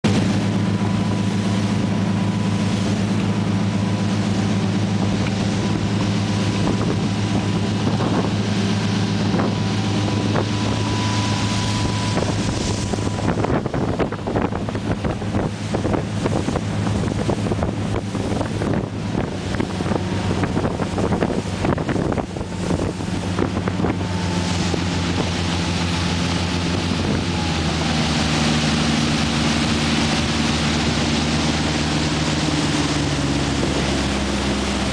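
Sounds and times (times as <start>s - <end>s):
motorboat engine humming: 0.0s - 34.9s
rushing water from hull: 0.0s - 34.9s
wind on microphone: 0.1s - 34.9s.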